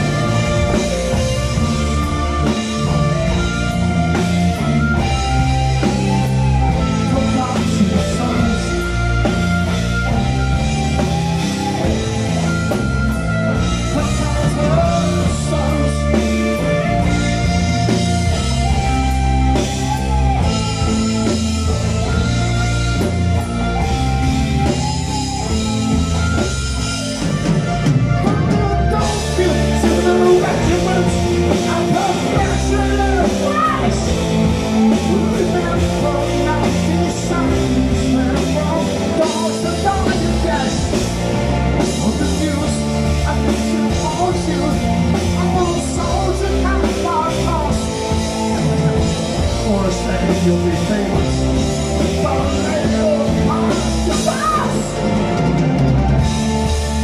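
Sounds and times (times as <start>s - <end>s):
bass guitar: 0.0s - 57.0s
drums: 0.0s - 57.0s
electric guitar: 0.0s - 57.0s
keyboards: 0.0s - 57.0s.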